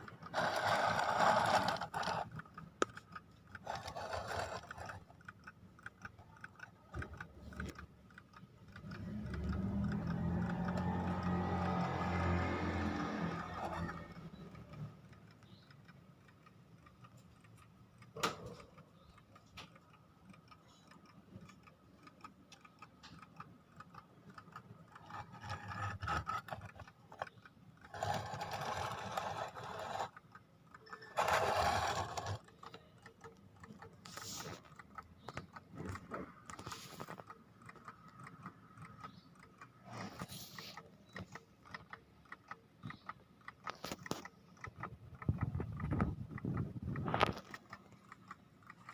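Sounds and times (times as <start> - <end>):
alarm clock ticking: 0.0 - 46.7.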